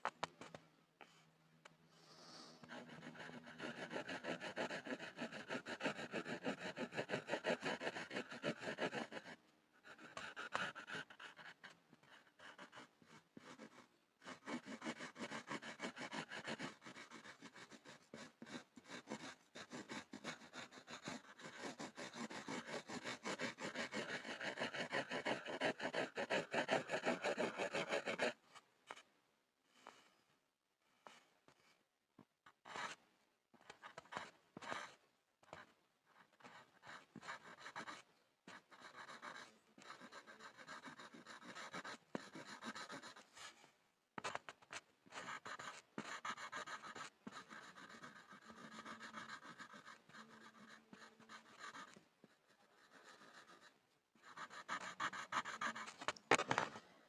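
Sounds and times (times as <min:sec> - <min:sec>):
pencil scribbling on a board: 0:02.6 - 0:29.0, 0:32.5 - 0:33.0, 0:33.6 - 0:56.6.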